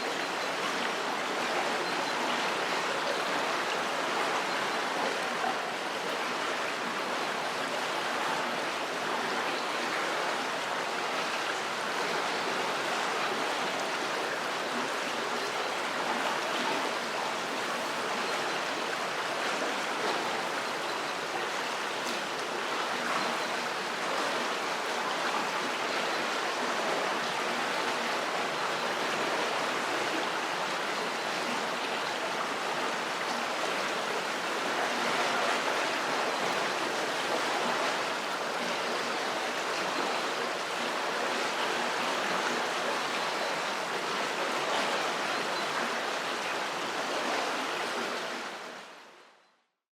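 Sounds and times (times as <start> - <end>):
river water rushing: 0.0 - 49.3.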